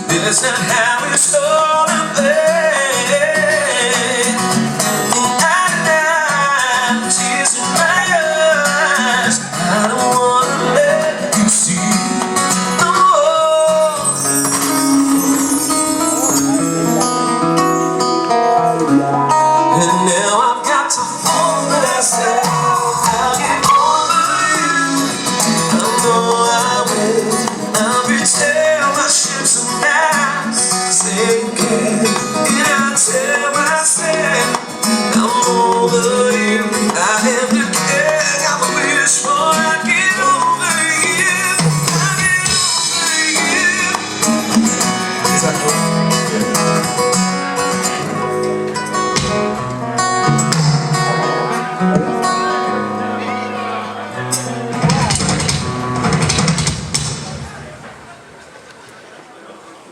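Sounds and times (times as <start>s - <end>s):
guitar melody: 0.0s - 57.9s
live band playing instrumental: 0.0s - 58.4s.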